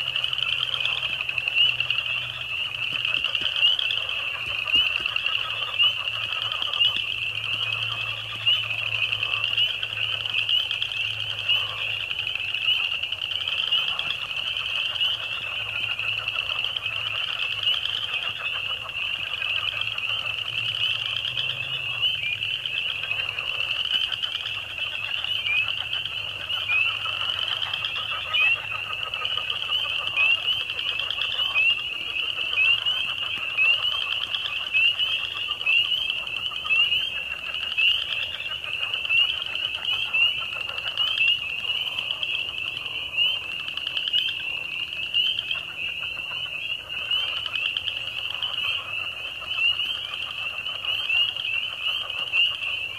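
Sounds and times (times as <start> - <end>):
frogs calling: 0.0 - 52.9.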